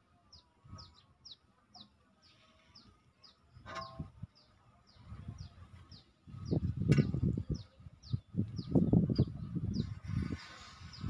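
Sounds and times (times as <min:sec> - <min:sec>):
bird chirping: 0:00.2 - 0:11.0.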